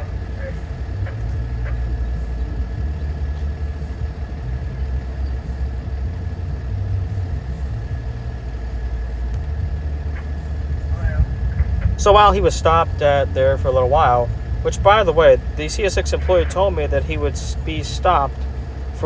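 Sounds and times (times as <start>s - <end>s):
diesel locomotive idling: 0.0s - 19.0s
faint steady whine: 0.0s - 19.0s.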